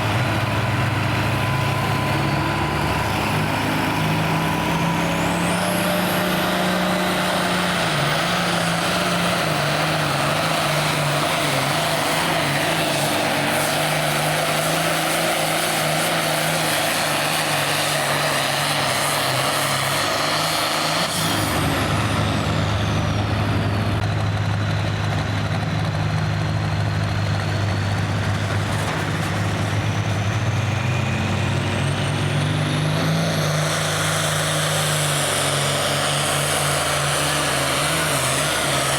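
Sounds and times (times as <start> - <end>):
tractor diesel engine at high revs: 0.0 - 38.9.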